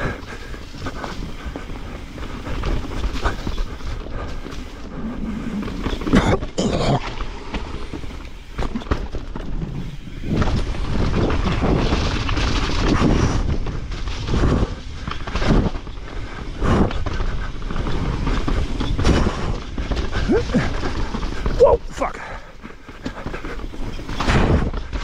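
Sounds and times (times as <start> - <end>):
bike knocks and rattles: 0.0 - 21.9, 22.5 - 25.0
bike tyres on dirt: 0.0 - 25.0.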